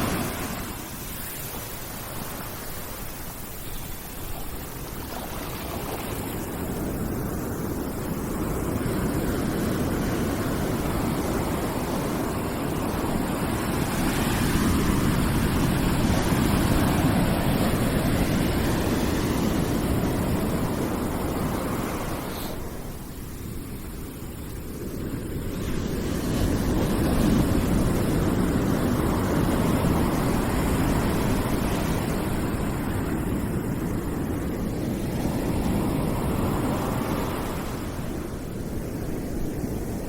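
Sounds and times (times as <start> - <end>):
deep rushing noise with hiss: 0.0 - 40.0.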